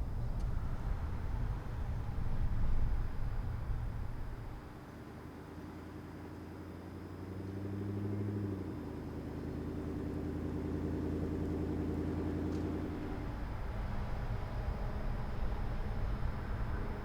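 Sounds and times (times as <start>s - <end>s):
pickup truck engine drone: 0.0s - 17.0s.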